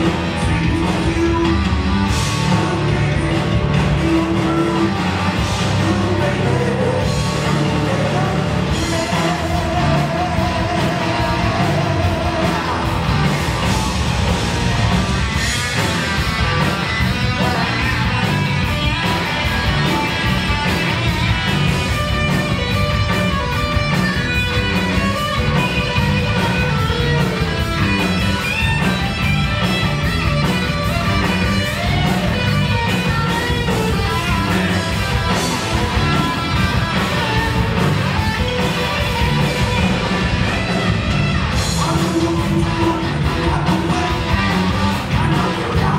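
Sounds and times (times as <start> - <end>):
drums: 0.0 - 45.9
electric guitar: 0.0 - 45.9
heavy metal band playing: 0.0 - 45.9.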